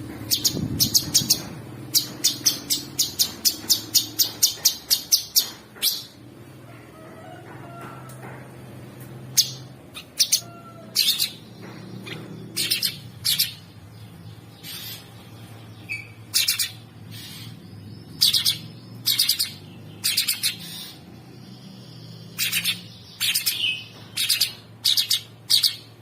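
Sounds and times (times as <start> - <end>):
songbird chattering: 0.2 - 6.2, 9.3 - 26.0.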